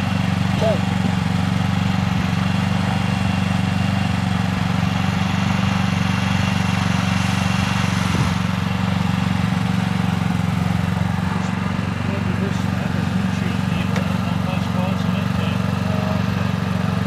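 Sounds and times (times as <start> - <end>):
portable generator running: 0.0 - 17.0.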